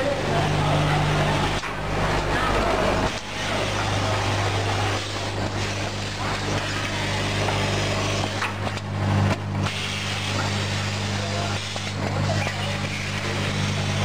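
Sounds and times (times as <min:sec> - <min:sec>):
packaging machinery humming: 0:00.0 - 0:14.0.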